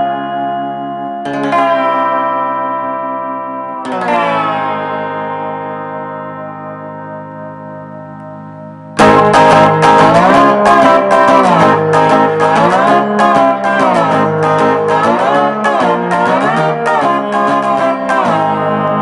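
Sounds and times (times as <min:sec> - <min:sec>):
slide guitar playing: 0:00.0 - 0:19.0.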